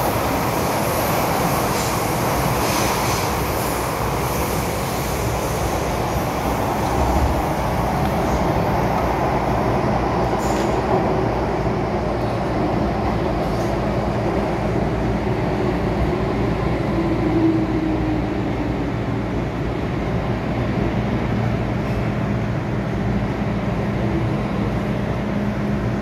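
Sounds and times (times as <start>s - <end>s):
faint train whine: 0.0s - 26.0s
train wheels rumbling: 0.0s - 26.0s.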